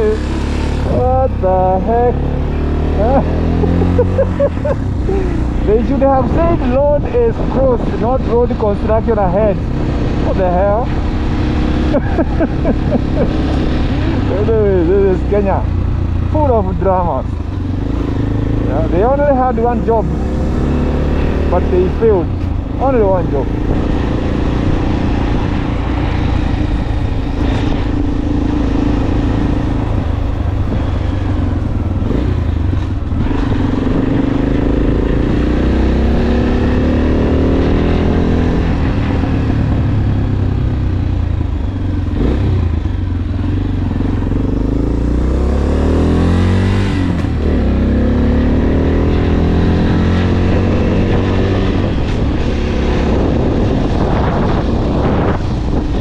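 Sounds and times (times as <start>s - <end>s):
motorcycle engine revving through gears: 0.0s - 56.0s
wind rumble on microphone: 4.4s - 18.7s, 19.9s - 56.0s.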